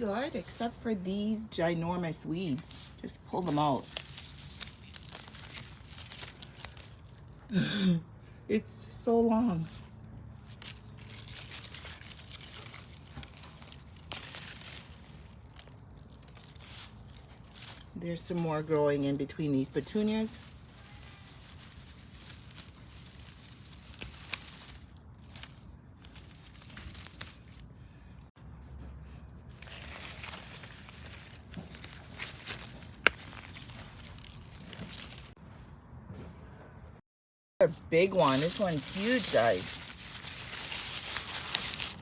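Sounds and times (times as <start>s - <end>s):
leaves and stems rustling: 0.0s - 7.6s, 8.5s - 28.0s, 29.5s - 35.4s, 37.6s - 42.0s
roots tearing loose: 2.1s - 7.5s, 9.1s - 27.8s, 29.5s - 35.4s, 37.6s - 42.0s.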